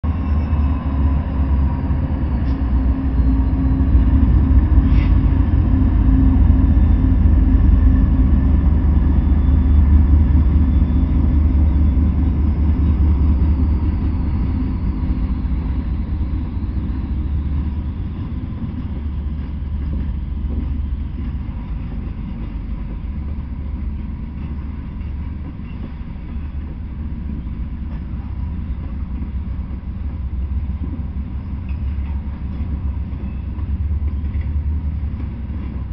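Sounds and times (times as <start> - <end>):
diesel locomotives rumbling: 0.0 - 35.9
freight cars rolling on rails: 0.0 - 35.9.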